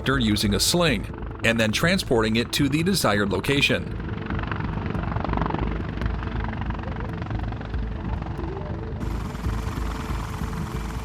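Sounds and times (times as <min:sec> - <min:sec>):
helicopter engine whine: 0:00.0 - 0:11.0
helicopter rotor beating: 0:00.0 - 0:11.0.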